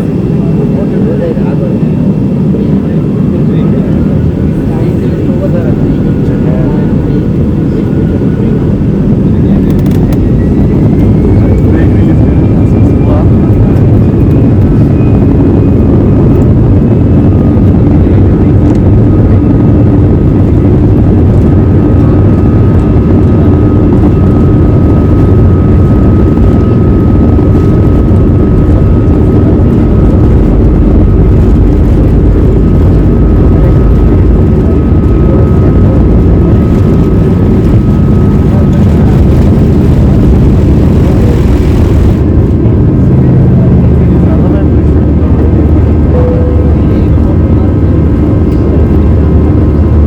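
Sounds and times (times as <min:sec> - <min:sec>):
jet engine roar in cabin: 0:00.0 - 0:50.0
thin fan whine: 0:00.0 - 0:50.0.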